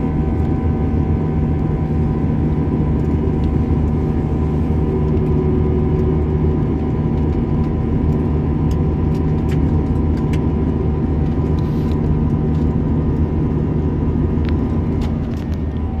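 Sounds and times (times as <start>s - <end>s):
constant hums: 0.0s - 16.0s
engine and airflow rumble: 0.0s - 16.0s.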